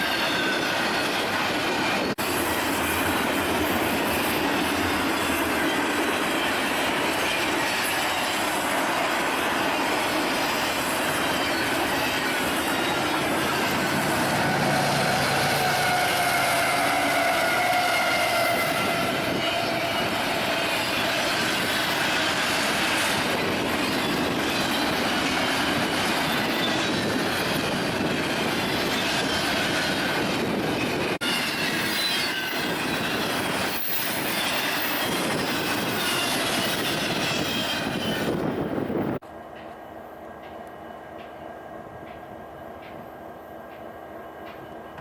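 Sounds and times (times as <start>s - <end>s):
train wheels squealing on rail: 0.0s - 41.7s
train cars rumbling past: 0.0s - 45.0s.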